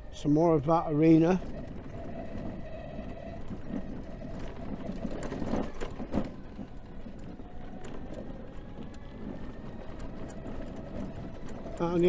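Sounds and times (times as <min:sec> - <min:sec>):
mobility scooter wheels rattling: 0:00.0 - 0:12.0.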